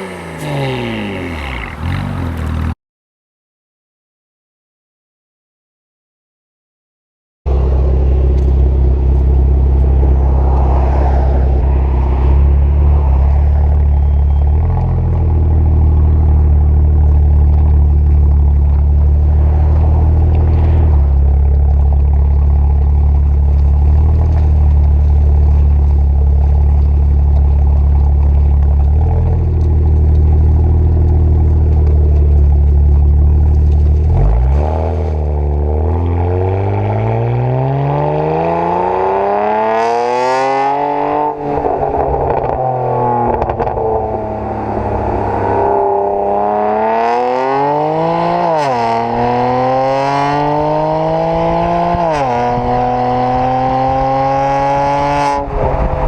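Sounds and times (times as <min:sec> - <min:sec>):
car engine idling and revving: 0:00.0 - 0:02.8, 0:07.5 - 0:56.0.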